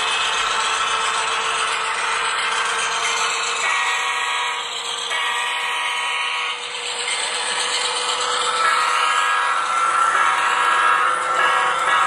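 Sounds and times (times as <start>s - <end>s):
model train electronic engine drone: 0.0s - 12.0s
rumble of moving train: 0.0s - 12.0s.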